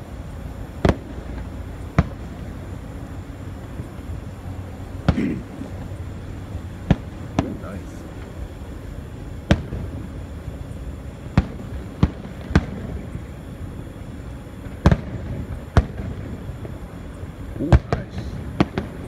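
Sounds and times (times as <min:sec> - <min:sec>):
fireworks booming: 0:00.0 - 0:08.5, 0:09.4 - 0:13.5, 0:14.6 - 0:19.0
low background noise: 0:00.0 - 0:19.0.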